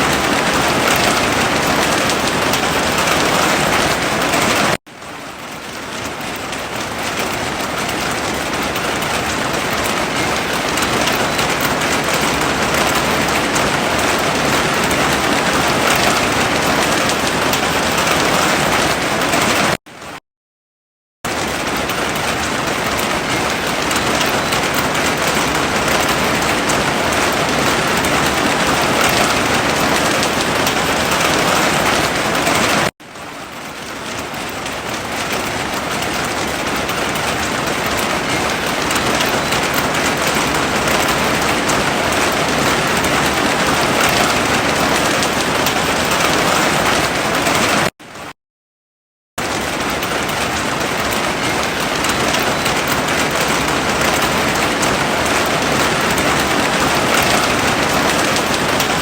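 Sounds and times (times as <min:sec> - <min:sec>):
heavy rain falling: 0:00.0 - 0:20.2, 0:21.3 - 0:47.9, 0:49.4 - 0:59.0.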